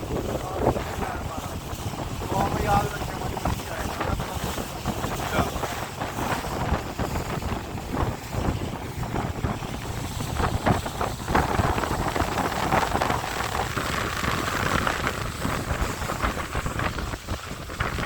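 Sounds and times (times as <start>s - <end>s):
boat noise: 0.0s - 18.0s
water noise: 0.0s - 18.0s
wind buffeting microphone: 0.0s - 18.0s.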